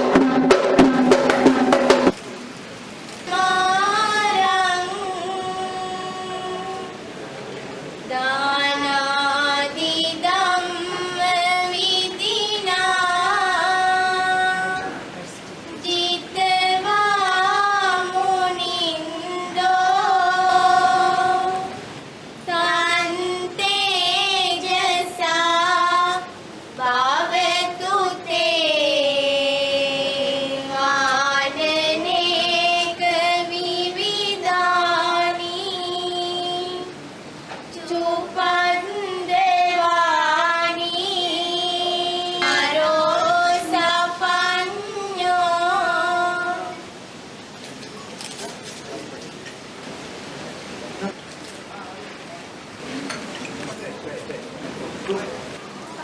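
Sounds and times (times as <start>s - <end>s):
high voices singing unaccompanied: 0.0s - 2.2s, 3.1s - 7.2s, 8.0s - 47.3s.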